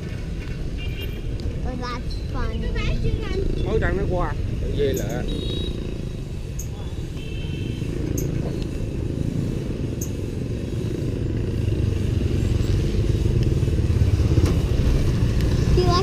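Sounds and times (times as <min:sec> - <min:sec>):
tuk-tuk engine rumble: 0:00.0 - 0:16.0.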